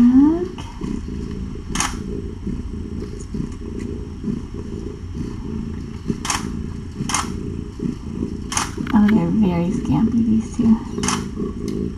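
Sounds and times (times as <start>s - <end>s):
cat purring: 0.0s - 11.9s.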